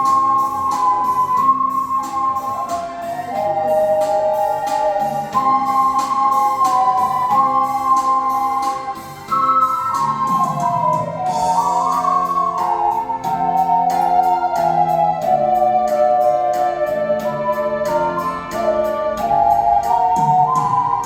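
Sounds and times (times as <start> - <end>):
keyboard chords: 0.0 - 21.0
ocarina ensemble melody: 0.0 - 21.0
steady beat: 0.0 - 21.0.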